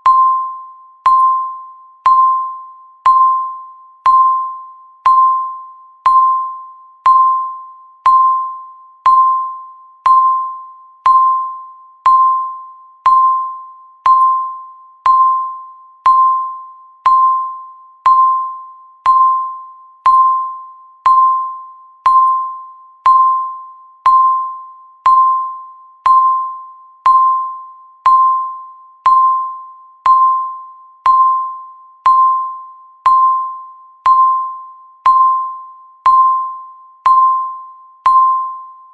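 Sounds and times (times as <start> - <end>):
countdown timer beeping: 0.0 - 38.9.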